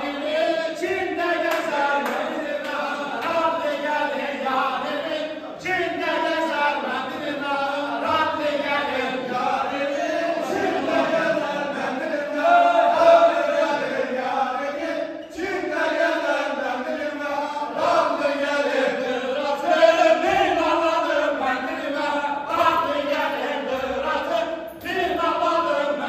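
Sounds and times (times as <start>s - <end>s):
men singing in unison: 0.0s - 26.0s.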